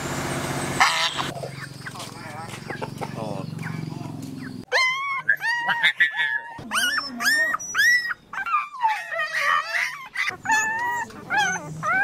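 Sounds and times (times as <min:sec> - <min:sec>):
puppies howling and yelping: 0:00.8 - 0:12.0.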